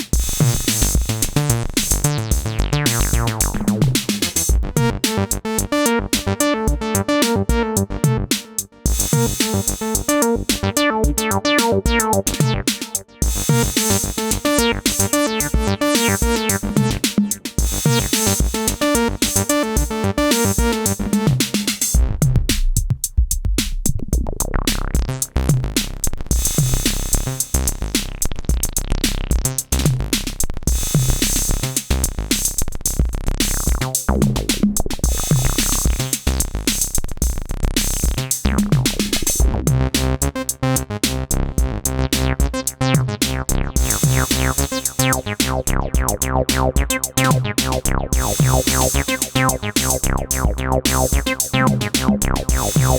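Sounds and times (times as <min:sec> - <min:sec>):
acid synth bass line: 0:00.0 - 0:22.7, 0:24.1 - 0:52.9
drum machine beat: 0:00.0 - 0:52.9.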